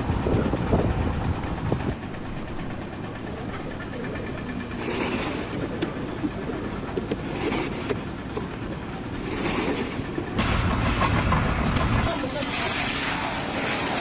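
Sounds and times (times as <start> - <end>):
mechanical rumble and clatter: 0.0 - 14.0.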